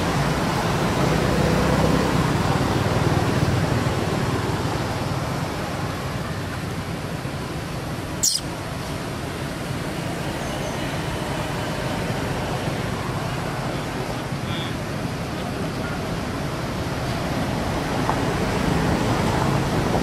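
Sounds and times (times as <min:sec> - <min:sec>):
rushing outdoor background noise: 0:00.0 - 0:20.0.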